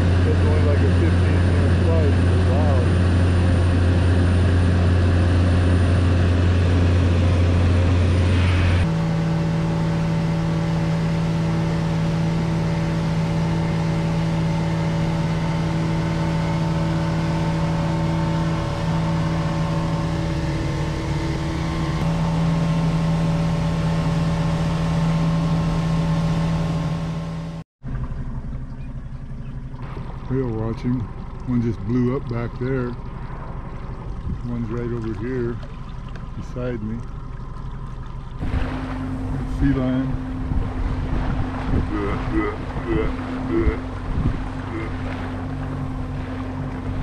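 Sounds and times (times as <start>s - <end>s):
boat engine humming: 0.0s - 47.0s
propeller plane engine drone: 0.0s - 47.0s.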